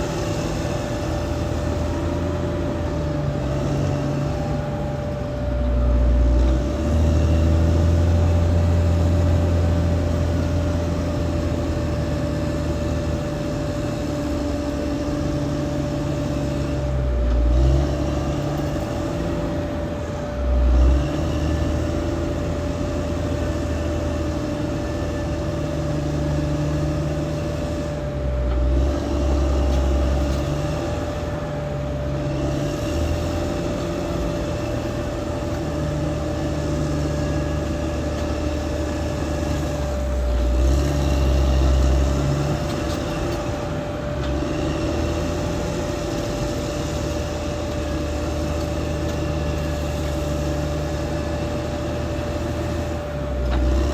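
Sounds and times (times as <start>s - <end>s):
bulldozer diesel engine running: 0.0s - 53.9s
steady high whine: 0.0s - 53.9s.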